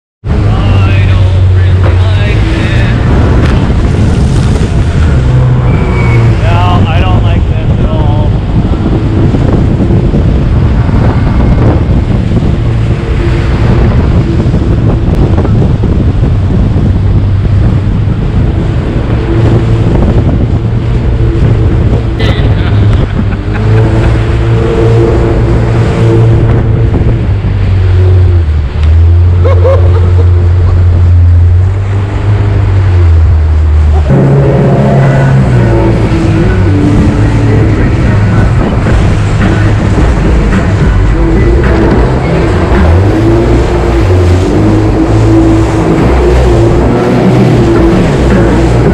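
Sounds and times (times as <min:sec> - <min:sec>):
jet boat engine under load: 0:00.2 - 0:48.9
wind buffeting microphone: 0:00.2 - 0:48.9
rushing whitewater: 0:00.3 - 0:48.9.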